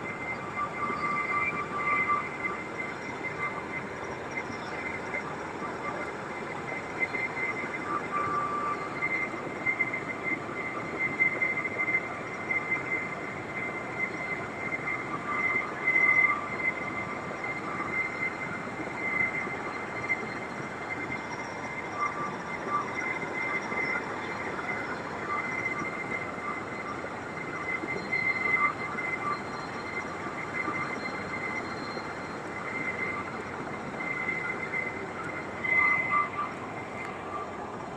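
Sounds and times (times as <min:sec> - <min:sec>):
high turbine whine: 0:00.0 - 0:37.9.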